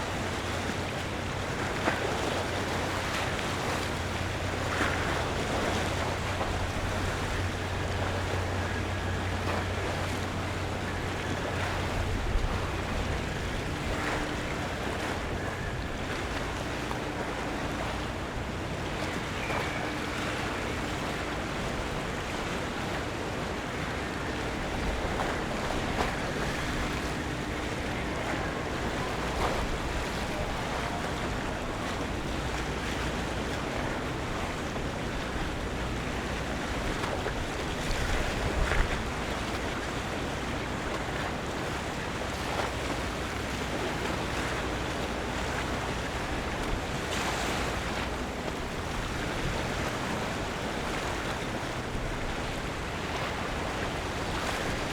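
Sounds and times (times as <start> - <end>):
water lapping: 0.0 - 54.9
wind: 0.0 - 54.9.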